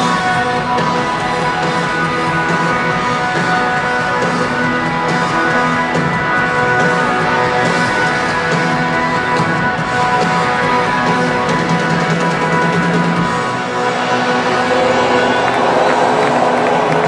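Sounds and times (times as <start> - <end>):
distorted electric guitars: 0.0 - 17.0
live rock band playing: 0.0 - 17.0.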